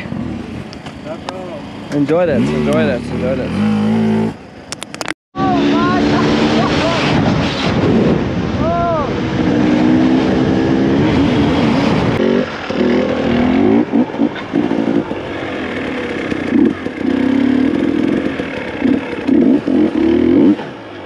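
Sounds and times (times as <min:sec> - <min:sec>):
dirt bike engine revving: 0:00.0 - 0:04.6, 0:05.4 - 0:08.4, 0:09.0 - 0:20.9.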